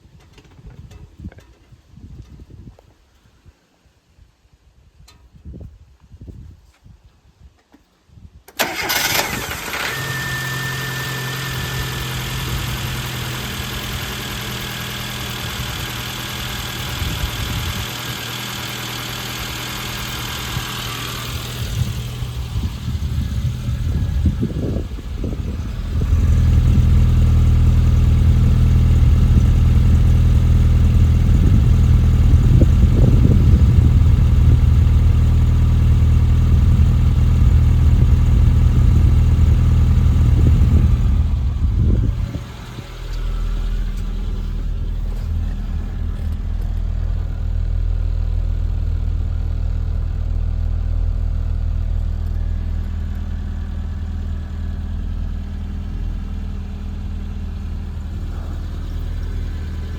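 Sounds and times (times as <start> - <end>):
car engine idling: 8.6 - 59.9.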